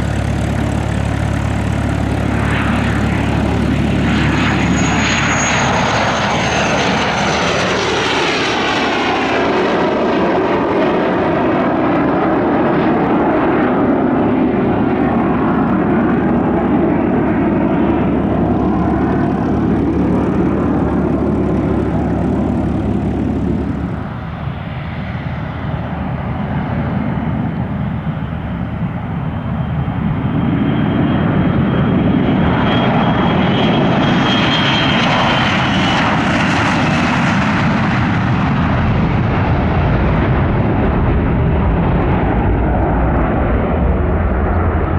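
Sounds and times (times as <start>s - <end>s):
aircraft engines running loudly: 0.0s - 44.9s.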